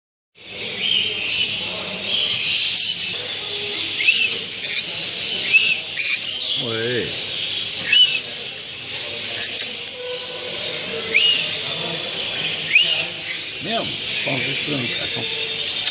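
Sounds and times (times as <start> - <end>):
caged birds chirping and squawking: 0.4 - 15.9.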